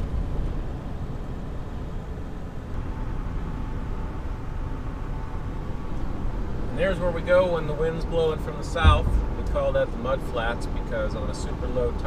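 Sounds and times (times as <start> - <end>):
road noise and engine rumble: 0.0 - 12.0.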